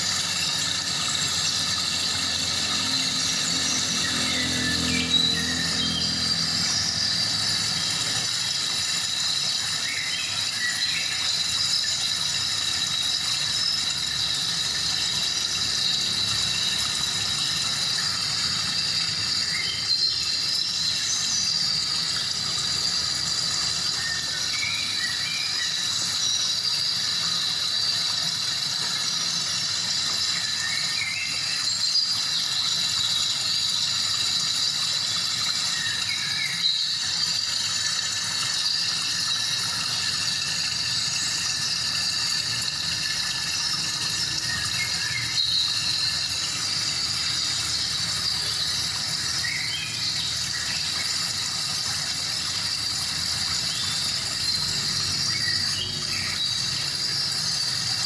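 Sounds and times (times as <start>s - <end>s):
continuous high whine: 0.0s - 58.0s.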